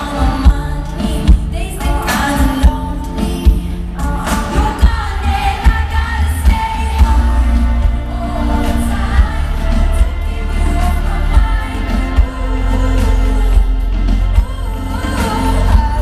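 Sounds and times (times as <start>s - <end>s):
electronic pop music: 0.0s - 16.0s
woman singing: 0.0s - 16.0s.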